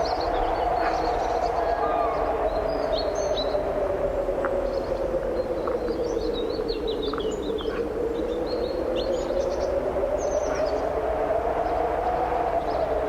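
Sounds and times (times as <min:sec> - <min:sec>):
songbirds chirping: 0:00.0 - 0:13.0
strong wind blowing: 0:00.0 - 0:13.0.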